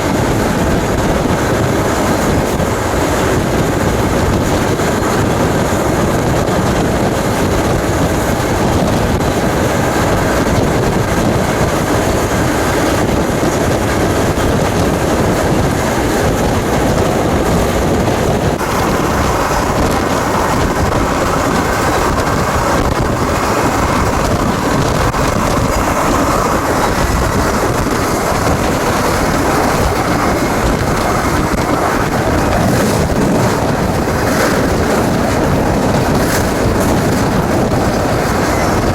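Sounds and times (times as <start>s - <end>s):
freight train rumbling and rattling: 0.0s - 38.9s
wind noise on microphone: 0.0s - 38.9s.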